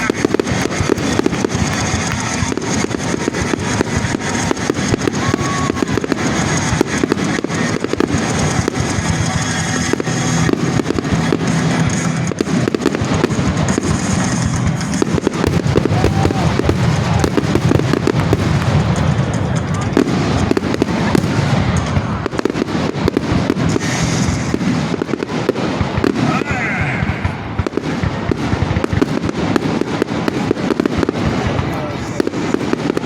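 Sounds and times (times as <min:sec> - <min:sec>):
background music: 0:00.0 - 0:33.0
fireworks booming and crackling: 0:00.0 - 0:33.0.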